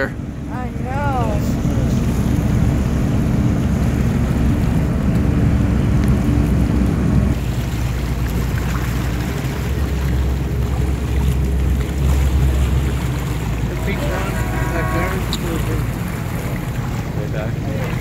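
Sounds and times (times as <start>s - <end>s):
motorboat engine droning: 0.0s - 18.0s.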